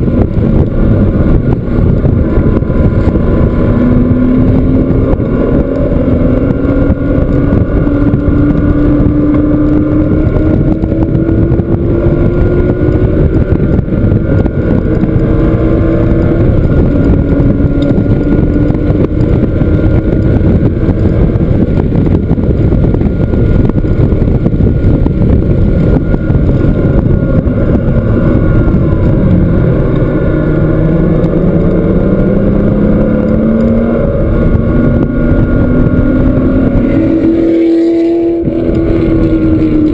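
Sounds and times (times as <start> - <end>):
car engine accelerating hard: 0.0 - 39.9
wind and road noise: 0.0 - 39.9.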